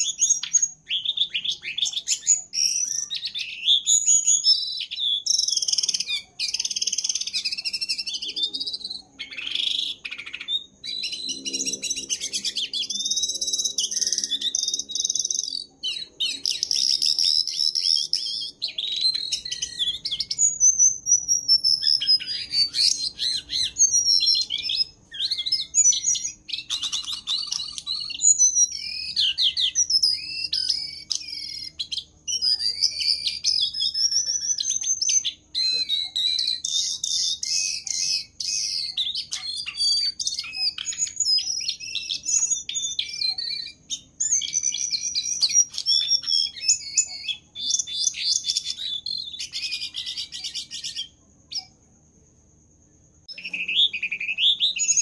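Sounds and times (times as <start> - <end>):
songbird singing with trills: 0.0 - 52.1, 53.0 - 55.0.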